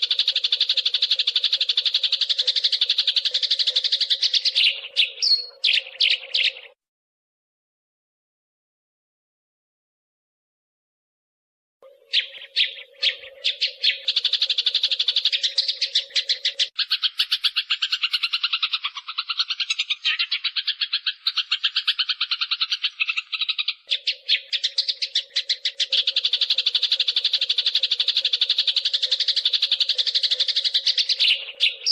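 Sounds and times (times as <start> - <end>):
sparrows chattering: 0.0 - 6.8, 11.8 - 31.9.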